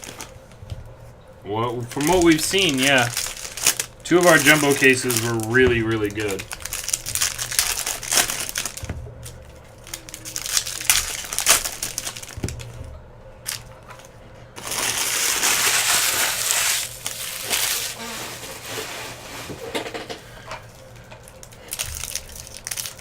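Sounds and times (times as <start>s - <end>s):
foil wrappers crinkling: 0.0s - 0.6s, 1.7s - 20.1s, 20.7s - 23.0s.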